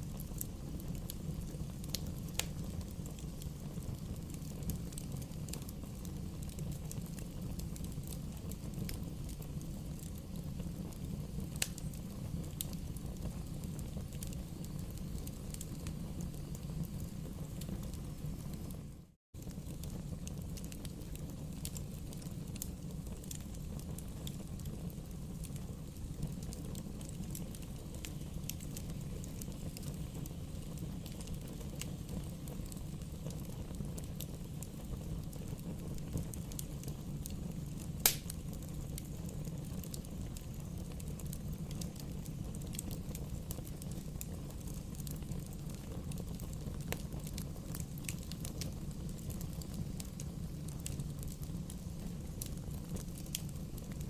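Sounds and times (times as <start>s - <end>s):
bonfire crackles and pops: 0.0s - 54.0s
bonfire rushing: 0.0s - 54.0s.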